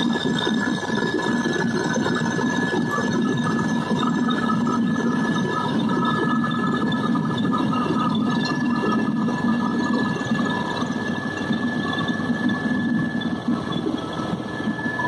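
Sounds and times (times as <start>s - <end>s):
helicopter cabin drone: 0.0s - 15.0s
high whine: 0.0s - 15.0s.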